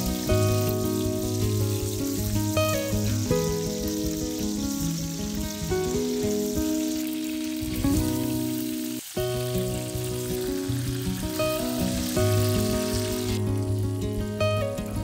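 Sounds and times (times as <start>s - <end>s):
background music: 0.0s - 15.0s
chicken frying in a pan: 0.0s - 15.0s.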